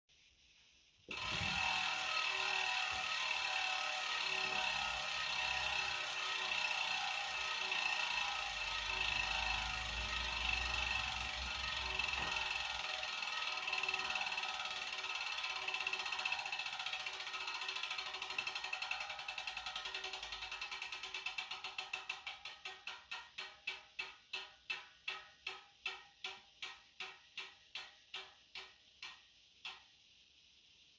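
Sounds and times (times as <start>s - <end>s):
bicycle freehub buzzing: 1.1s - 29.9s.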